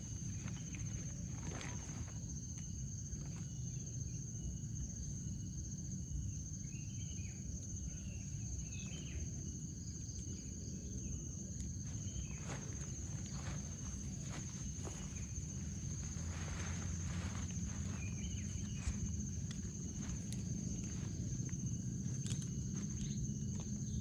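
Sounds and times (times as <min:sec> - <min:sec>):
insects chirring: 0:00.0 - 0:24.0
low outdoor rumble: 0:00.0 - 0:24.0.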